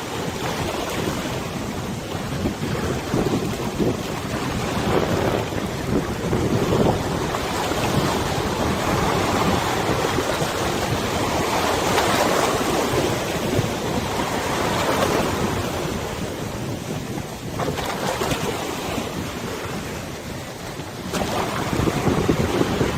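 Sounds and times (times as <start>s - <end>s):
river waves washing: 0.0s - 22.9s
wind buffeting microphone: 0.0s - 22.9s.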